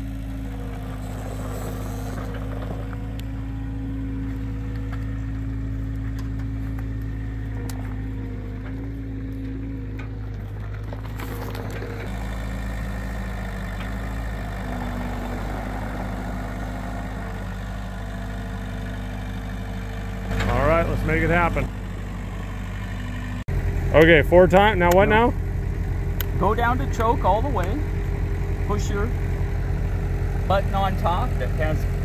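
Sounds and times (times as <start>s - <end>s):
loader engine running: 0.0s - 32.0s.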